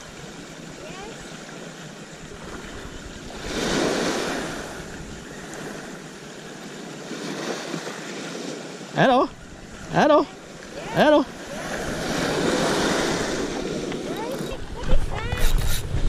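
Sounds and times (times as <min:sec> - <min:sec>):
waves washing onto pebble beach: 0:00.0 - 0:14.8.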